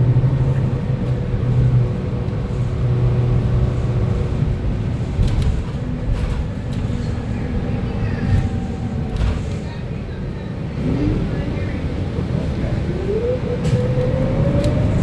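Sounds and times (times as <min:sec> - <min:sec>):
bus engine drone with whine: 0:00.0 - 0:15.0.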